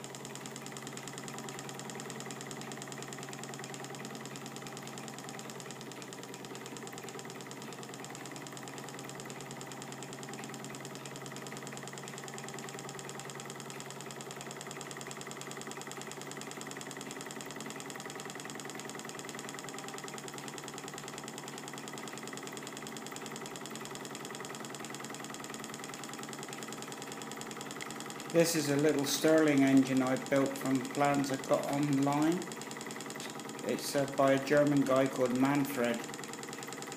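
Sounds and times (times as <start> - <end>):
small engine whirring and ticking: 0.0 - 36.9.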